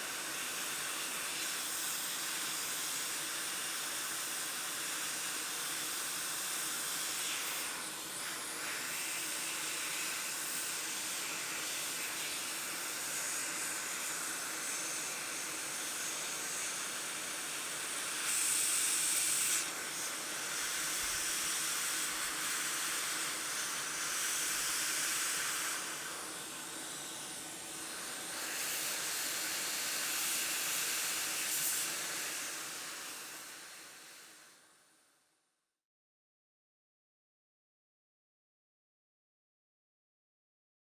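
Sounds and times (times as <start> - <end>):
hot air hissing from nozzle: 0.0 - 34.9.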